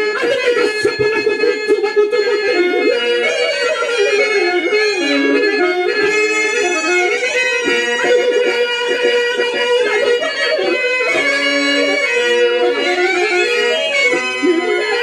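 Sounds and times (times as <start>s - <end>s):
harmonium melody: 0.0s - 15.0s
held drone note: 0.0s - 15.0s.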